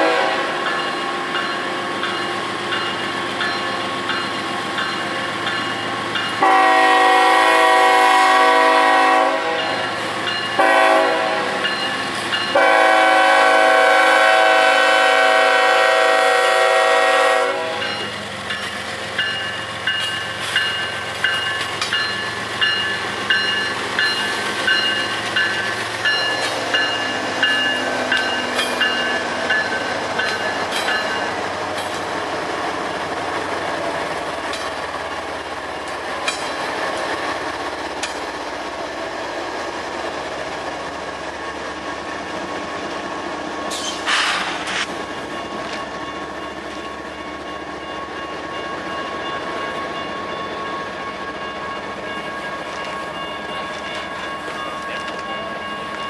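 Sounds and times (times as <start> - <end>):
freight train wheel and rail noise: 0.0 - 56.0.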